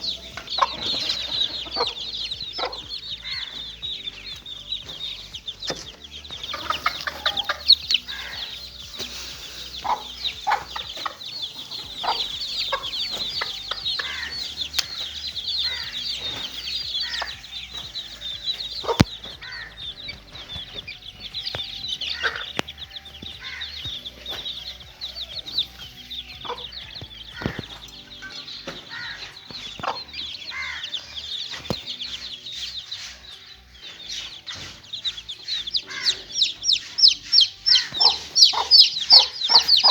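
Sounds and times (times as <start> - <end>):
chicks peeping: 0.0 - 39.9
lower clucking calls: 0.0 - 39.9.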